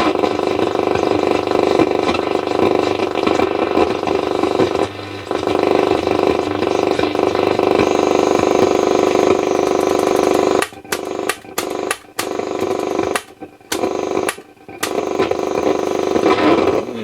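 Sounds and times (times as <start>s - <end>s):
radio crackles: 0.0s - 17.0s
radio static buzz: 0.0s - 17.0s.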